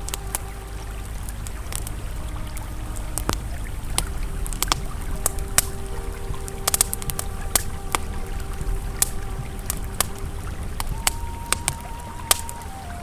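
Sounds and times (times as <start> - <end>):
campfire crackling and popping: 0.0 - 13.0
river flowing: 0.0 - 13.0.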